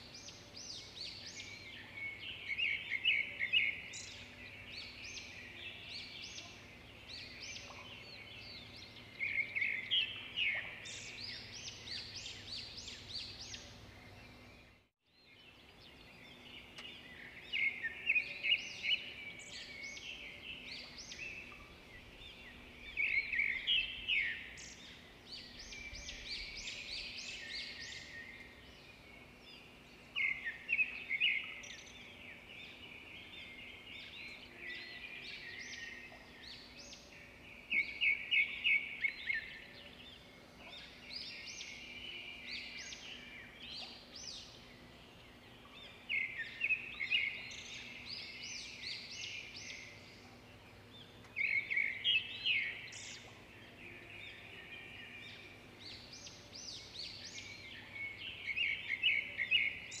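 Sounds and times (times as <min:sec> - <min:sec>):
birds chirping softly: 0:00.0 - 1:00.0
songbird singing: 0:00.0 - 1:00.0.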